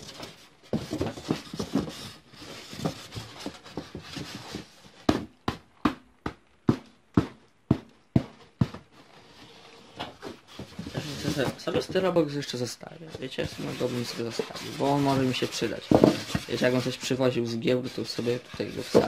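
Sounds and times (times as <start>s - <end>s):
styrofoam box rustling and scraping: 0.0s - 5.0s, 8.5s - 19.0s.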